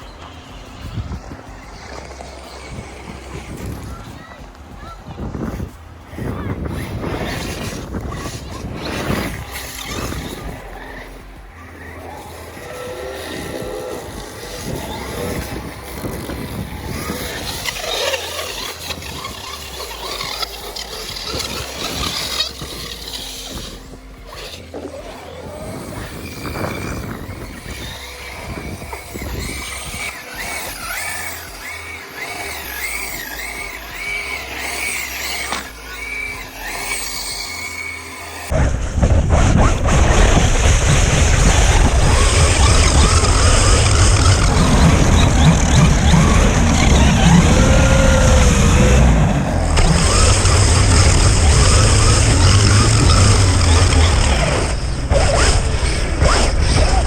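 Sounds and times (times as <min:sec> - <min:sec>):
background music: 0:00.0 - 0:57.0
faint motor whines: 0:00.0 - 0:57.0
toy truck electric motor rumble: 0:00.0 - 0:57.0.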